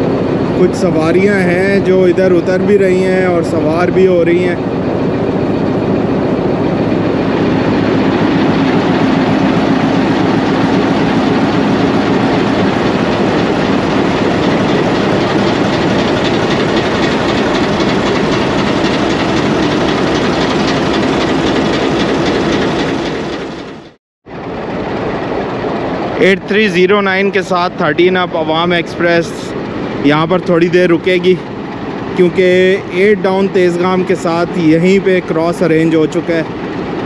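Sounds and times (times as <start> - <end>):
locomotive engine drone: 0.0 - 37.0.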